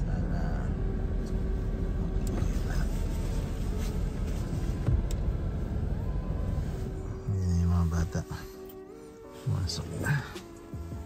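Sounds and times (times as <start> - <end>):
car engine idling: 0.0 - 11.0
faint music: 0.0 - 11.0.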